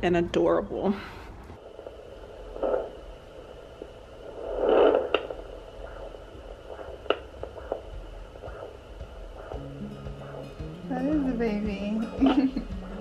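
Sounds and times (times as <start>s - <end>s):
heartbeat monitor static hiss: 0.4s - 13.0s.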